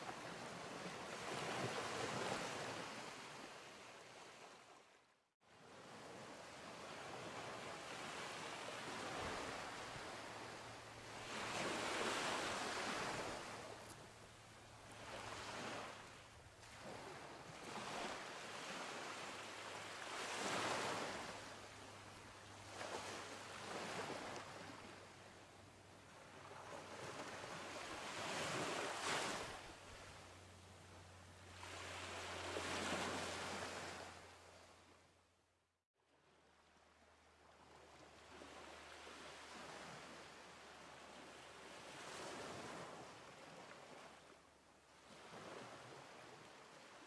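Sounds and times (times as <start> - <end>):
small waves breaking on beach: 0.0 - 35.0, 36.1 - 47.0.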